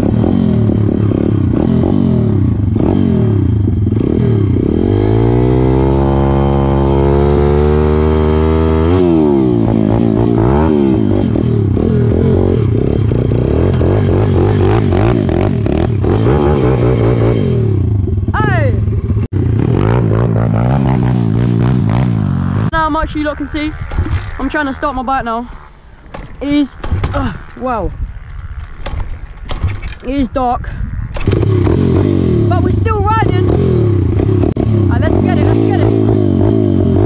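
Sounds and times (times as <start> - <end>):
motorbike engine revving: 0.0 - 37.0.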